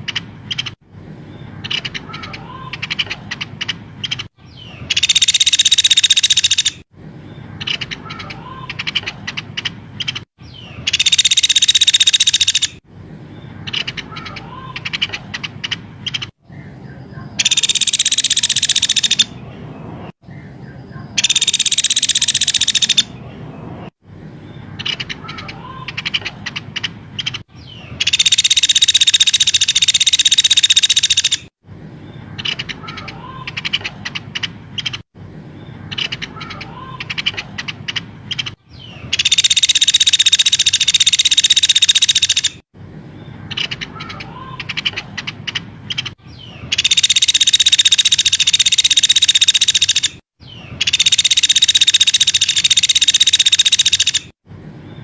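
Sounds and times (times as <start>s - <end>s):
bird song bursts of high notes: 0.0s - 55.0s.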